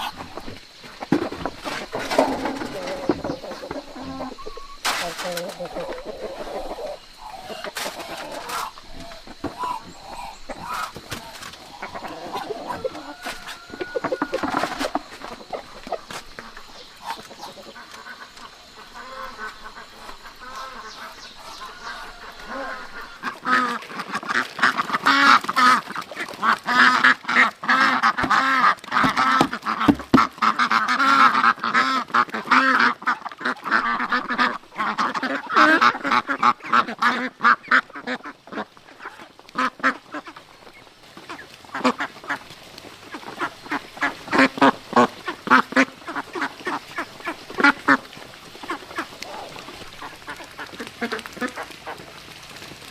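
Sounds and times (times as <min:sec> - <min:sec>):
ducks quacking: 0:00.0 - 0:52.6.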